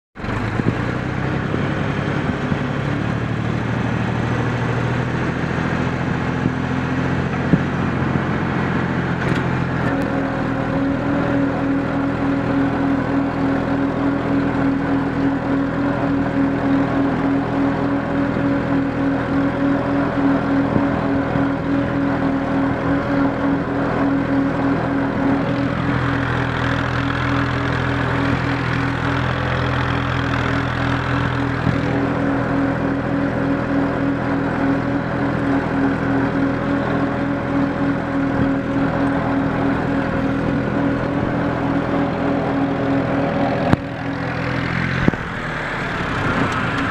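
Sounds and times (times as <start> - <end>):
tractor diesel engine running: 0.2 - 46.9.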